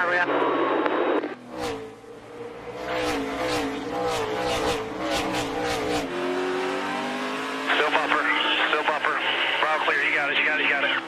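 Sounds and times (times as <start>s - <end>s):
race car engine running hard: 1.3s - 11.0s.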